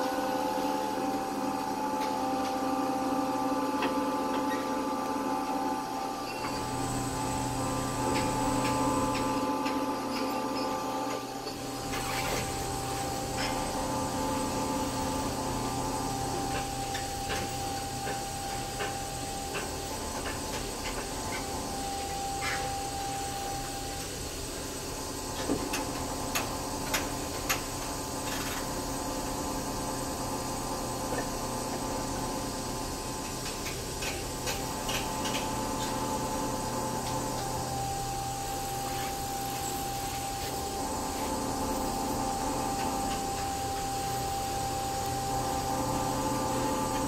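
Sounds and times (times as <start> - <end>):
crane machine hum: 0.0 - 47.0.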